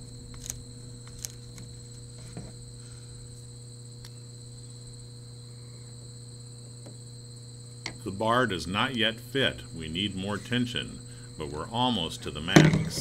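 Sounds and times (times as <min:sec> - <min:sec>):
steady low hum: 0:00.0 - 0:13.0
thin high whine: 0:00.0 - 0:13.0.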